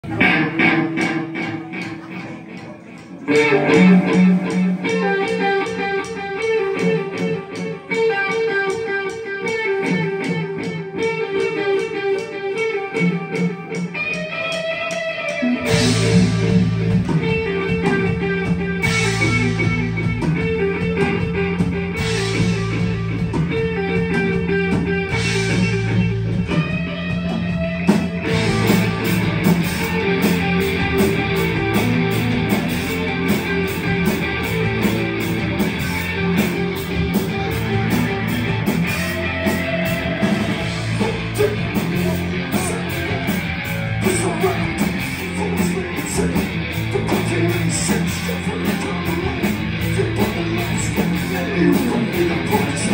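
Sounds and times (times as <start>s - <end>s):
live rock band playing: 0.0s - 52.9s.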